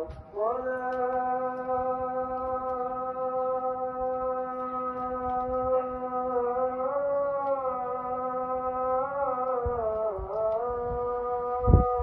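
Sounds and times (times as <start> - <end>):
person singing a long note: 0.0 - 12.0.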